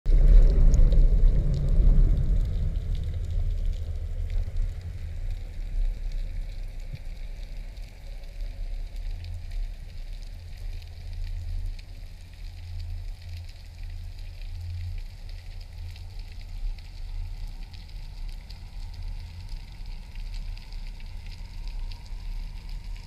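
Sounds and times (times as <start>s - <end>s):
underwater rumble of moving water: 0.0s - 23.0s
faint crackling ticks: 0.1s - 23.0s.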